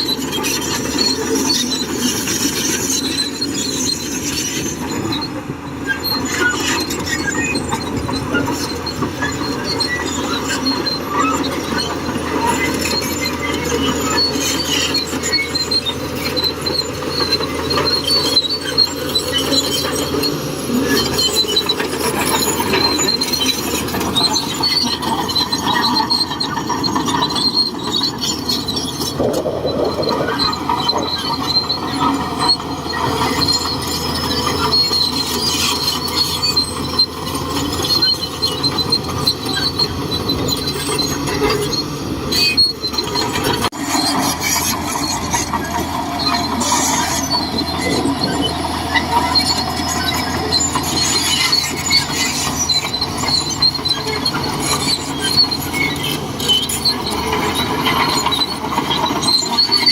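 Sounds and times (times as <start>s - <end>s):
bulldozer engine under load: 0.0s - 59.9s
steel tracks squeaking: 0.0s - 59.9s.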